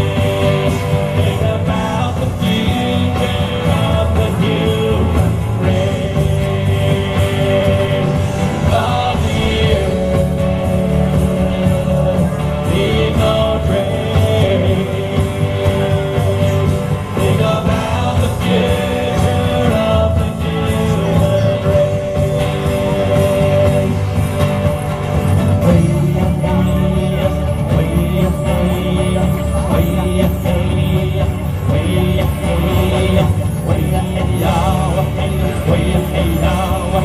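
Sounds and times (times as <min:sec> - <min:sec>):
live band instrumental music: 0:00.0 - 0:37.0.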